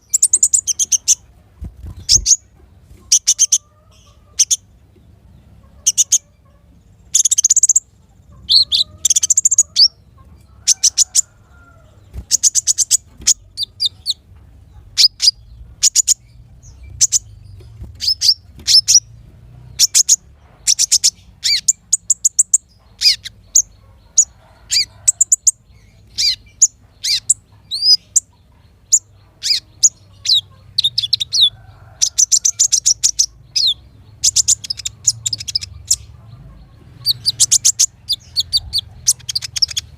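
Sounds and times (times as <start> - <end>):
songbirds chirping in trills: 0.0 - 39.9.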